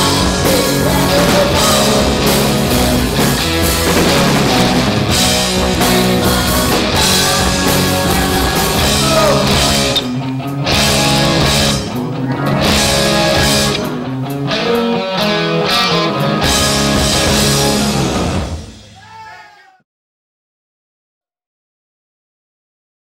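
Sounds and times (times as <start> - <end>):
muffled rock band playing: 0.0 - 19.2.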